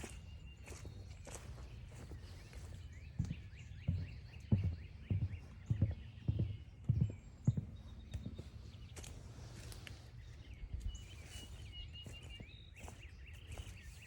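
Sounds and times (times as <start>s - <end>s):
footsteps on forest trail: 0.0s - 14.0s.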